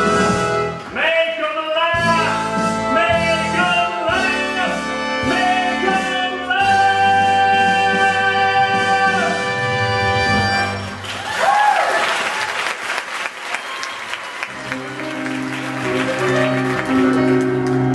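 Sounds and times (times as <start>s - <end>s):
band playing instrumental music: 0.0s - 11.0s, 14.5s - 17.9s.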